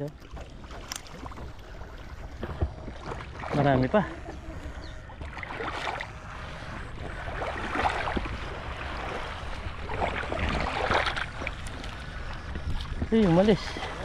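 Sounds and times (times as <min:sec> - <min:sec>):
shallow water splashing: 0:00.0 - 0:14.0
wind rumble on microphone: 0:00.0 - 0:14.0.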